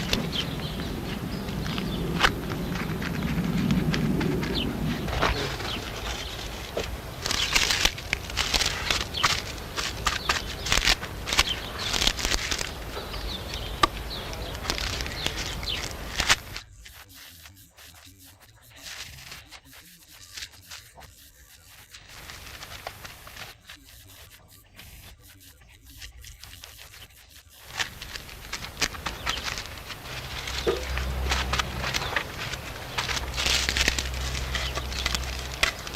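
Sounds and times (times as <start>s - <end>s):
render scraping on a wall: 0.0s - 35.9s.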